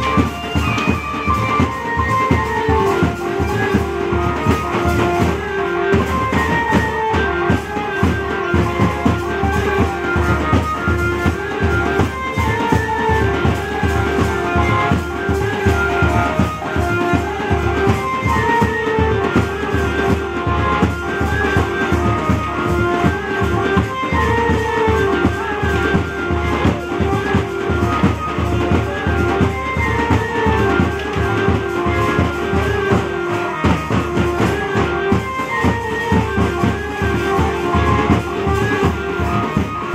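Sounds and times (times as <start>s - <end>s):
electronic keyboard melody: 0.0s - 39.9s
hand drums beating: 0.0s - 39.9s.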